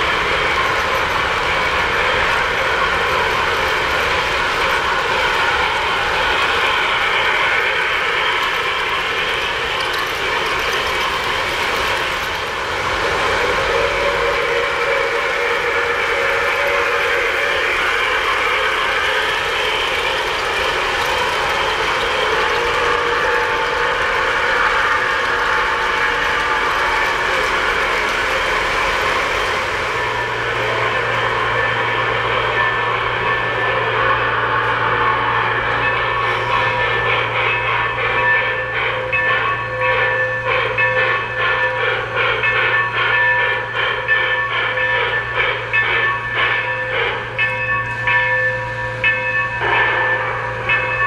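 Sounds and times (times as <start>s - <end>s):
model train wheels and motors: 0.0s - 51.0s.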